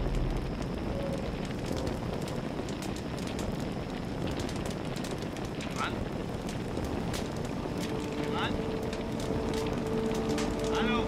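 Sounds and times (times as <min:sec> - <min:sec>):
faint crackles and ticks: 0:00.0 - 0:11.0
outdoor ambient hiss: 0:00.0 - 0:11.0.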